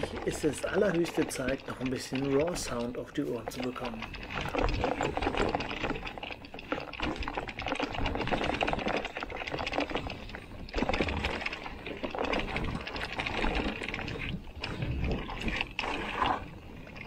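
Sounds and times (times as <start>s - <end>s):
bike parts rattling: 0.0s - 17.0s
tyres crunching over dirt: 0.0s - 17.0s.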